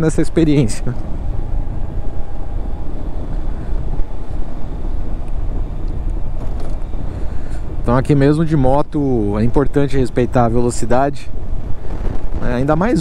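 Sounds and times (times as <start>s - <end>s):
scooter engine and tyre noise: 0.0s - 13.0s
wind rushing on microphone: 0.0s - 13.0s.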